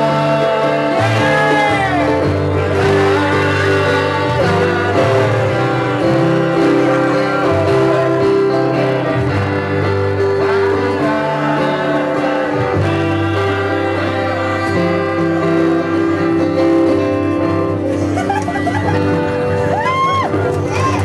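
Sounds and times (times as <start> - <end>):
men singing: 0.0 - 17.8
acoustic guitars strummed: 0.0 - 21.0.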